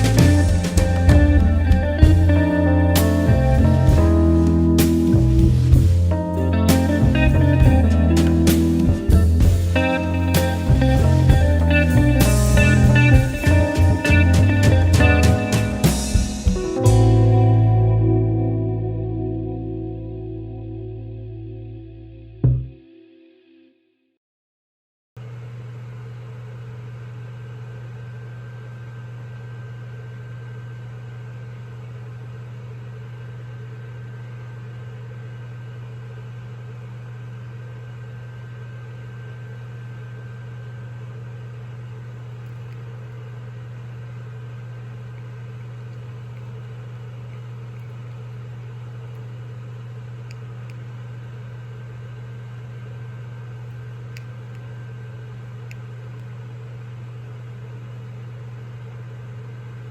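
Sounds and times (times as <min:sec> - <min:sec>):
gas fireplace humming: 0:00.0 - 0:21.5, 0:25.2 - 0:59.9.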